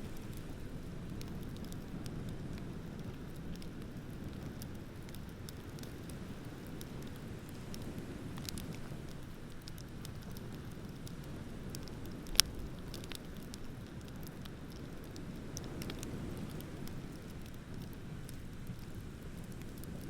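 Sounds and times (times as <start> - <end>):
bonfire crackling: 0.0 - 20.0
low steady rush: 0.0 - 20.0.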